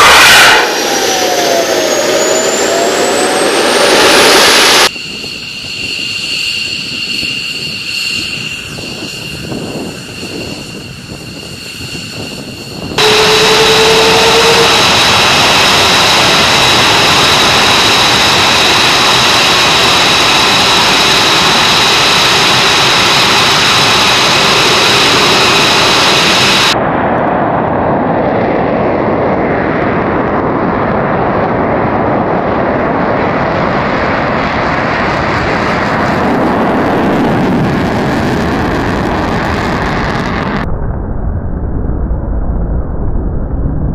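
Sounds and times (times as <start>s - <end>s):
jet engines running: 0.0s - 40.7s.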